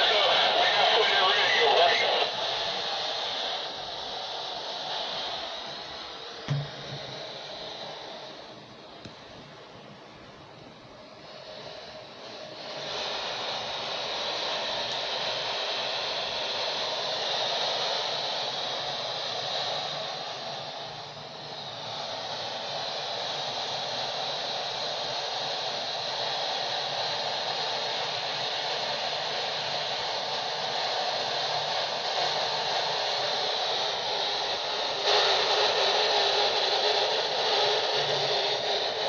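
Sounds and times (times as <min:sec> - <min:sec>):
radio static hiss: 0:00.0 - 0:39.0.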